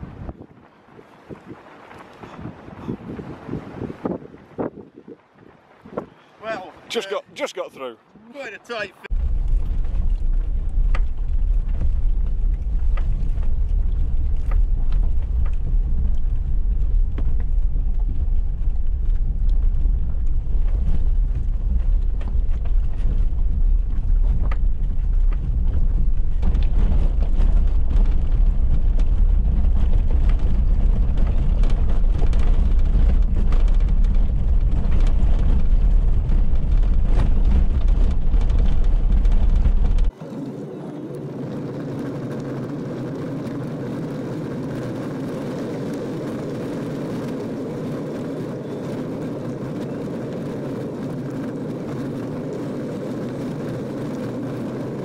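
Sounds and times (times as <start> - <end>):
engine and tyres rumbling: 9.1 - 55.0.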